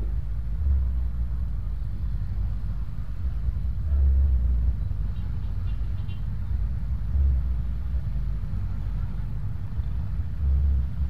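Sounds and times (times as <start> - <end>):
idling motorbike and car engines: 0.0 - 11.0.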